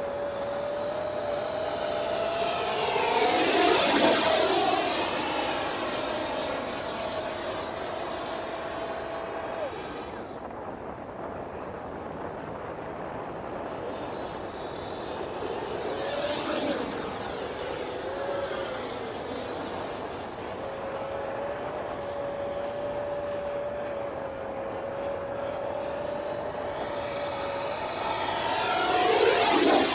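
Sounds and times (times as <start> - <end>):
model jet fan whine: 0.0 - 29.9.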